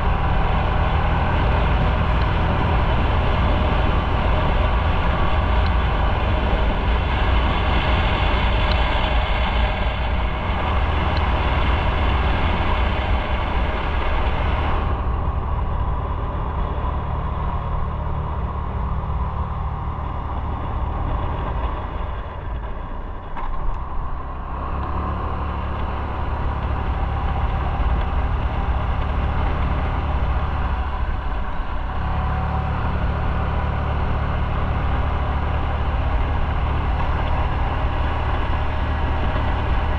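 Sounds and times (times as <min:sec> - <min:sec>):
motorcycle engine running: 0:00.0 - 0:39.9
traffic noise: 0:00.0 - 0:39.9.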